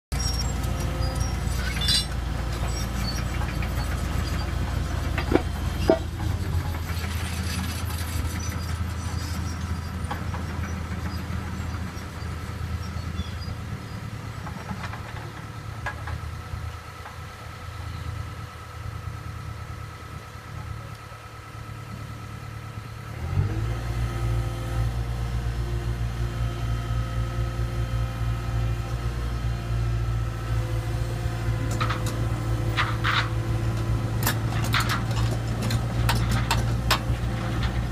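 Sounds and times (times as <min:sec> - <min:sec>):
excavator diesel engine running: 0:00.1 - 0:37.9.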